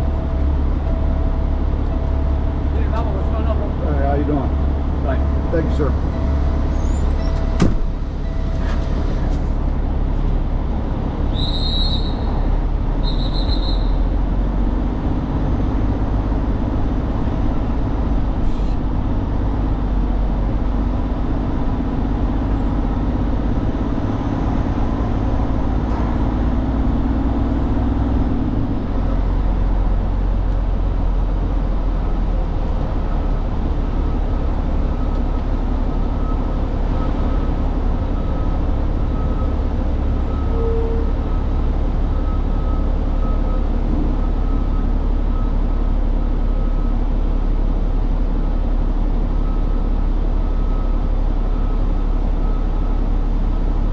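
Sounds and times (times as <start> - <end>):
truck engine rumbling: 0.0 - 53.9.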